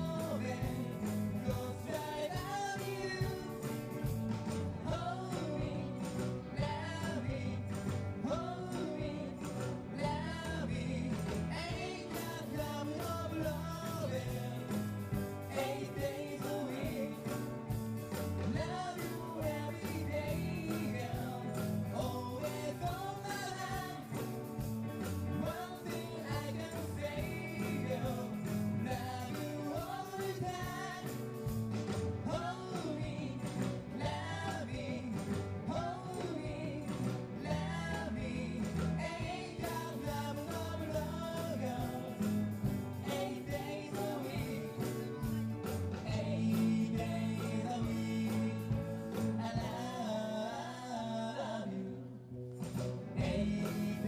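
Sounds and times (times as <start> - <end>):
person singing: 0.0 - 3.9, 4.8 - 17.6, 18.4 - 24.4, 25.2 - 31.4, 32.2 - 52.2, 53.2 - 54.0
live band playing: 0.0 - 50.7, 52.4 - 54.0.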